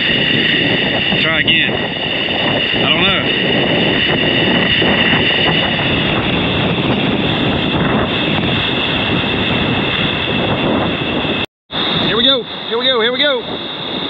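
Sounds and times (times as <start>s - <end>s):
ocean surf breaking: 0.0s - 14.0s
wind on microphone: 0.0s - 14.0s.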